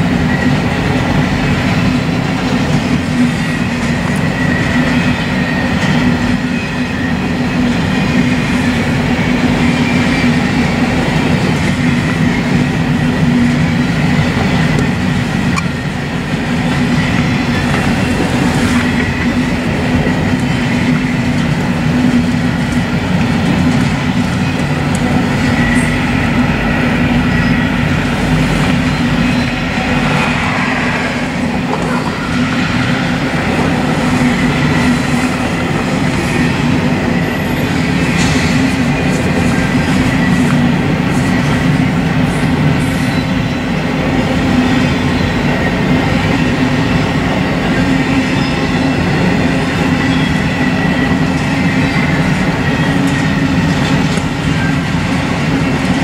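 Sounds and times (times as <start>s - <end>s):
freight train wheels rumbling: 0.0s - 56.0s
high wheel squeal: 2.9s - 21.3s, 23.4s - 47.1s, 47.7s - 55.9s.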